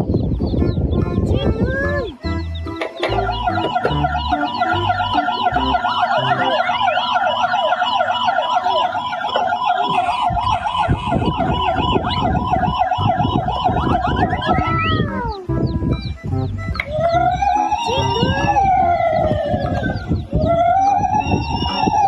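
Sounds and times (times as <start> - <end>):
low thumping tones: 0.0 - 8.2, 9.2 - 22.0
siren yelping: 2.2 - 22.0.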